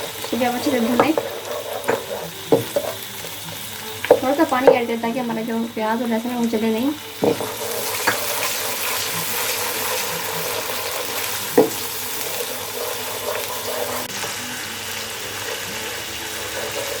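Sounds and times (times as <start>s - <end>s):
onion and garlic sizzling in oil: 0.0s - 17.0s.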